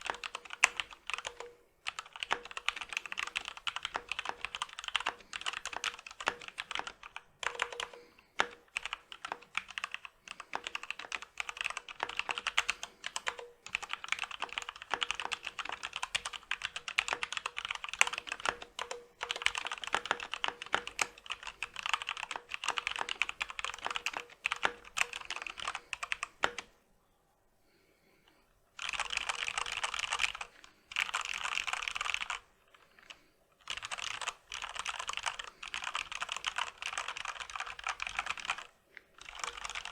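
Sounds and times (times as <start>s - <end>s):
fast typing on mechanical keyboard: 0.0s - 26.7s, 28.8s - 39.9s.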